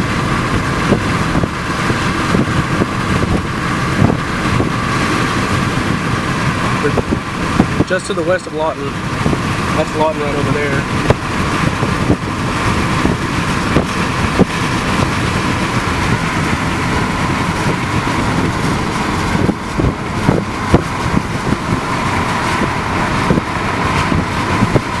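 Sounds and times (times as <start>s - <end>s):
vehicle and road noise: 0.0s - 25.0s.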